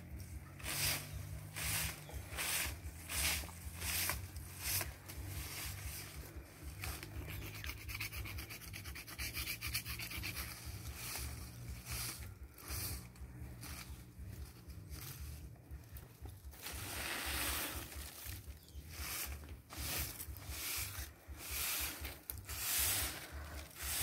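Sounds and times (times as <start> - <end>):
branches scraping on concrete: 0.0 - 24.0.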